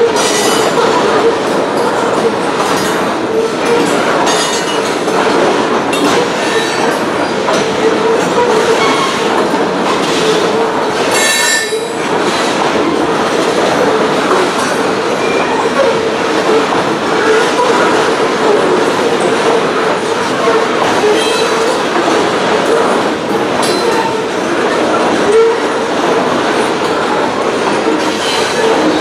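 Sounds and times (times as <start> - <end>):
freight train rolling past: 0.0 - 29.0.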